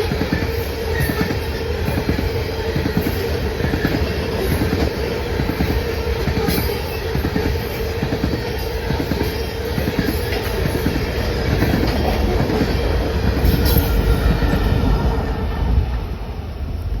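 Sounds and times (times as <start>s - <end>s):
train wheels rumbling and clicking: 0.0s - 17.0s.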